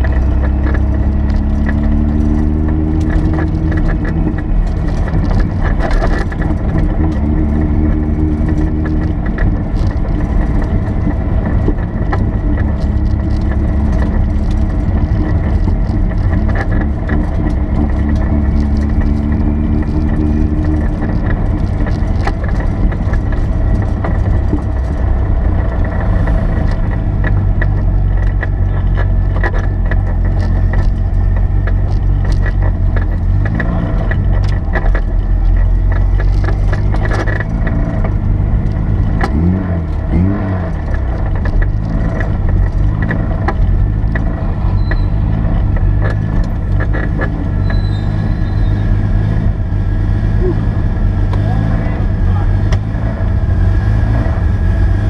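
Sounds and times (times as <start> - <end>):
small clicks and rattles: 0.0 - 50.4
car engine at low revs: 0.0 - 55.0.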